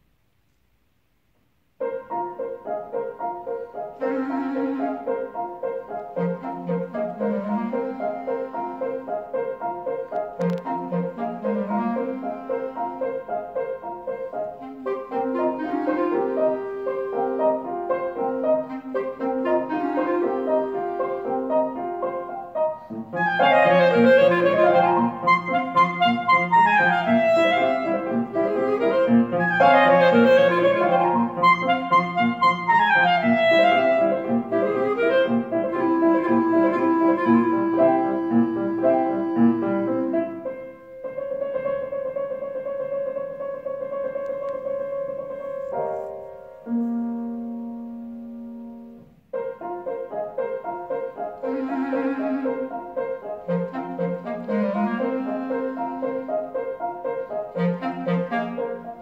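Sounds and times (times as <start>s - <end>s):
clarinet melody: 1.8s - 59.0s
musical accompaniment: 1.8s - 59.0s.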